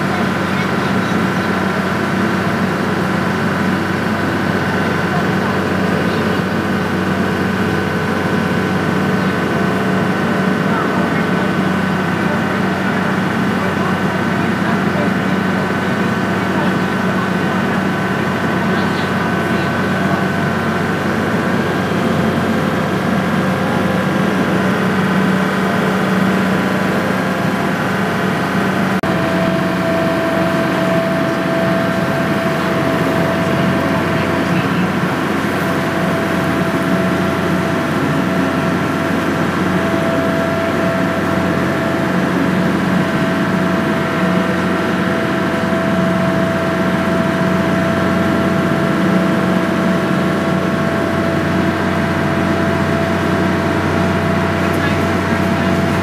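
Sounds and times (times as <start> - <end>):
ferry engine humming: 0.0 - 56.0.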